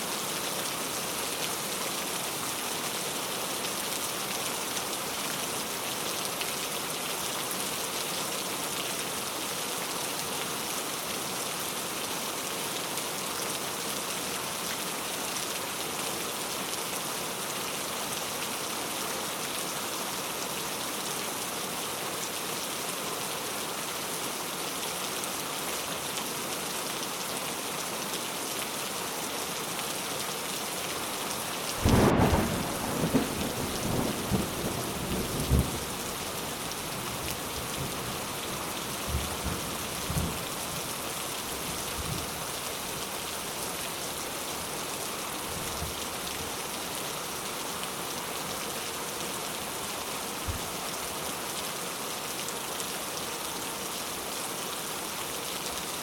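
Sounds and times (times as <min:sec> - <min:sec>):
steady rain patter: 0:00.0 - 0:56.0.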